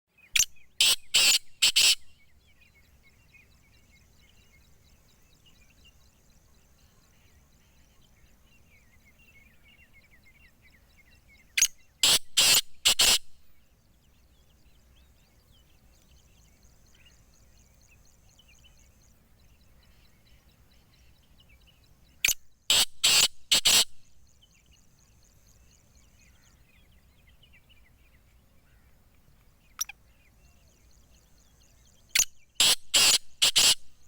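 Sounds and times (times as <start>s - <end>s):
small birds chirping: 0.1s - 34.0s
francolin harsh calls: 0.3s - 29.0s, 29.7s - 34.0s.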